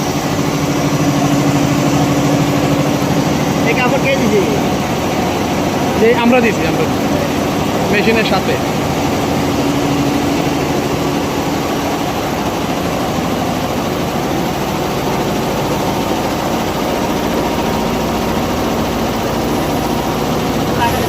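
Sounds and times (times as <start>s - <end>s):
embroidery machine clattering: 0.0s - 21.0s
faint machine hum: 0.0s - 21.0s.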